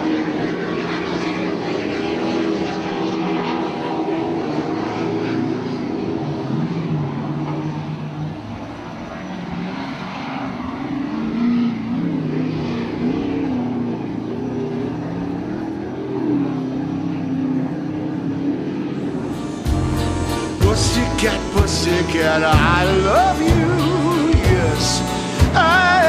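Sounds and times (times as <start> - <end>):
powerboat engines passing: 0.0 - 26.0.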